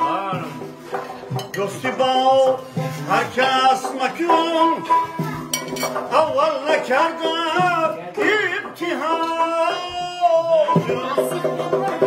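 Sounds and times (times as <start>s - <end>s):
man singing folk song: 0.0s - 5.2s, 5.9s - 12.0s
frame drum: 0.0s - 12.0s
plucked lute: 0.0s - 12.0s.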